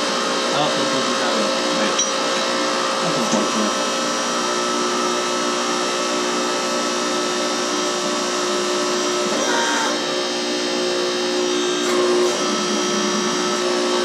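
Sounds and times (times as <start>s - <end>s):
hydraulic pump hum and whine: 0.0s - 14.0s.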